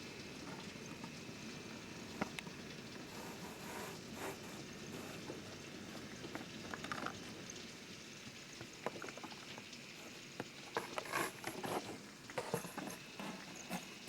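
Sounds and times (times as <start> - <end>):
heavy rain and floodwater hiss: 0.0 - 14.0.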